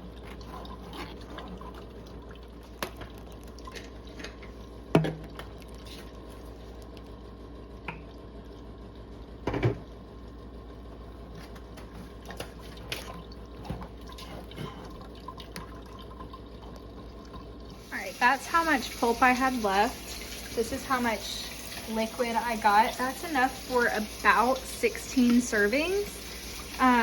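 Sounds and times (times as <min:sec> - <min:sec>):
juice dripping through strainer: 0:00.0 - 0:27.0.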